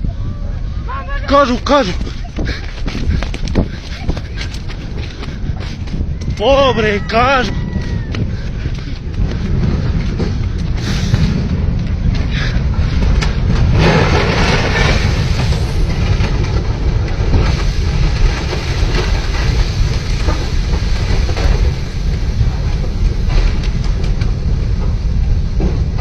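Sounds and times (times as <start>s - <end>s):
mudflow rumbling: 0.0s - 26.0s.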